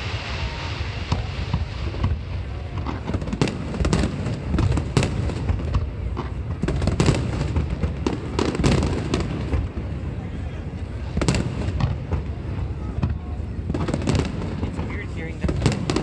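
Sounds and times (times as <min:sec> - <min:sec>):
continuous low rumble: 0:00.0 - 0:16.0
fireworks cracks and bangs: 0:00.0 - 0:16.0.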